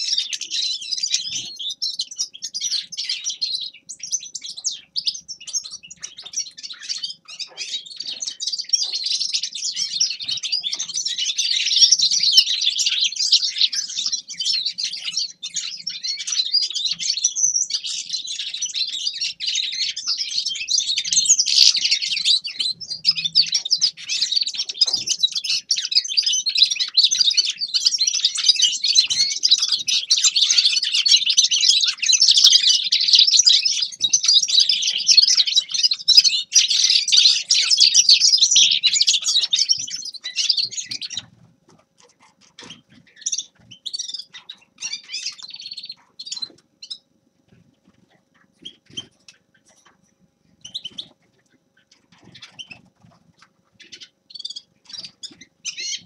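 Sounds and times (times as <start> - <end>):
finch singing: 0.0 - 56.0.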